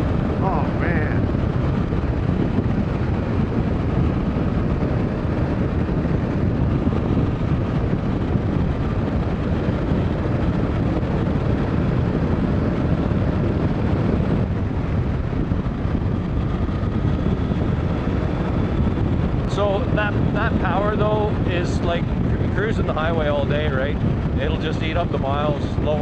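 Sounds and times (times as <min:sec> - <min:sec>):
motorcycle engine cruising: 0:00.0 - 0:26.0
wind rush over microphone: 0:00.0 - 0:26.0.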